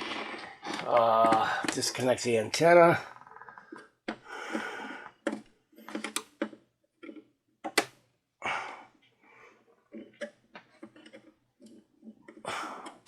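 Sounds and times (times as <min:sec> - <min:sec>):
hands handling radio parts: 0:00.0 - 0:08.1, 0:09.0 - 0:13.0.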